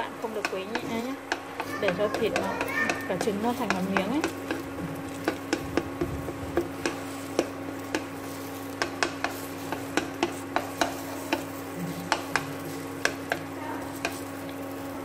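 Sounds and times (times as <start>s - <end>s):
cooktop hum: 0.0s - 15.0s
oil sizzling: 0.0s - 15.0s
spoon scraping frying pan: 0.3s - 14.9s
spoon clicking against pan: 0.4s - 14.6s.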